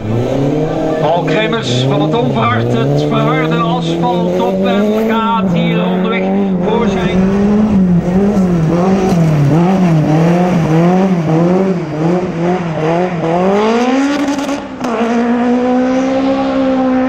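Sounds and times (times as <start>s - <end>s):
rally car engine under hard throttle: 0.0s - 17.0s.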